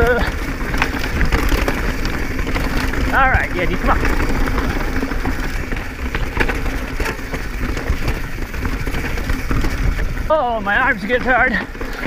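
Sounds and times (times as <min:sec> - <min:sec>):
bike rattling: 0:00.0 - 0:12.0
bike tyres crunching over dirt: 0:00.0 - 0:12.0
wind rumbling on microphone: 0:00.0 - 0:12.0.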